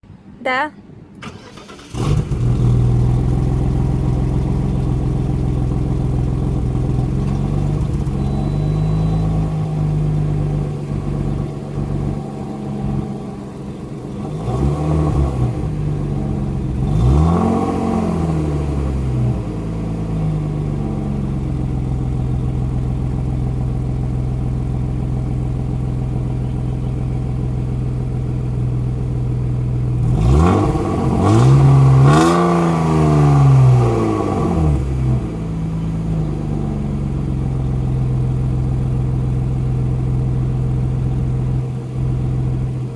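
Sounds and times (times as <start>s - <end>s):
car engine idling and revving: 1.2s - 42.9s.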